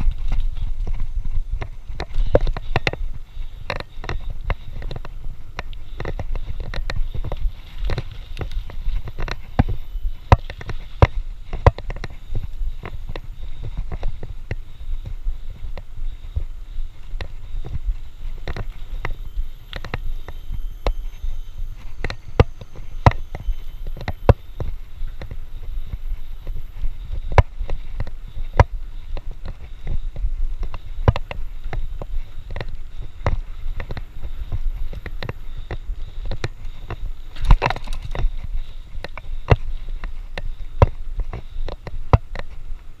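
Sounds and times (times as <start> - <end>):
bike clicking and rattling: 0.0 - 43.0
bike tyres rumbling on dirt: 0.0 - 43.0
wind: 0.0 - 43.0.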